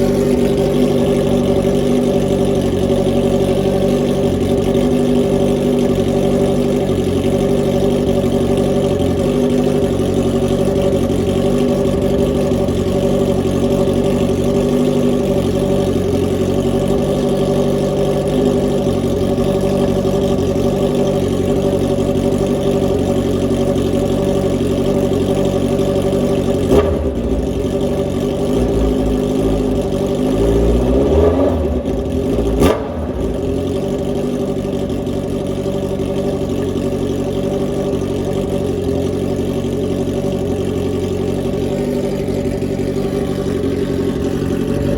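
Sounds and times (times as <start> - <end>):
exhaust crack: 0.0 - 44.9
motorcycle engine idling loud: 0.0 - 44.9
motorcycle engine revving: 0.0 - 44.9.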